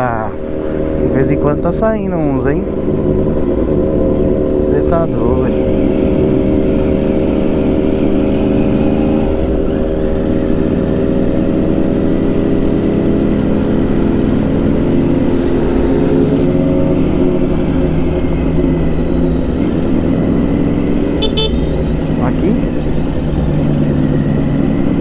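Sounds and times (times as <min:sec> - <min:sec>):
motorcycle engine running: 0:00.0 - 0:25.0
road noise rumble: 0:00.0 - 0:25.0.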